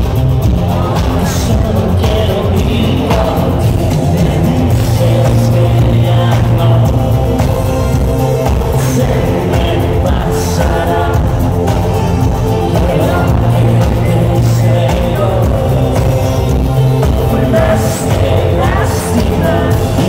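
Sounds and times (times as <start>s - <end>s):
live synth-pop band with singer: 0.0s - 20.0s.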